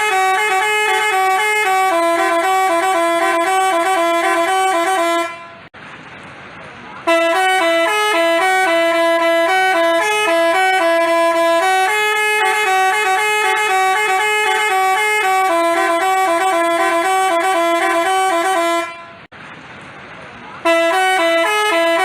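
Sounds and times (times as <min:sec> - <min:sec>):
multi-tone bus horn tune: 0:00.0 - 0:05.7, 0:07.0 - 0:19.3, 0:20.6 - 0:22.0.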